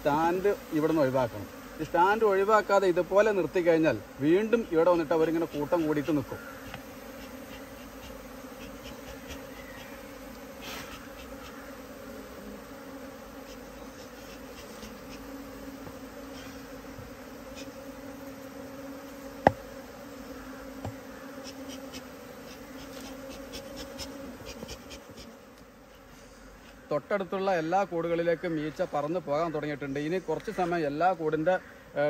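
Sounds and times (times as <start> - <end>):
bees humming: 0.0 - 32.0.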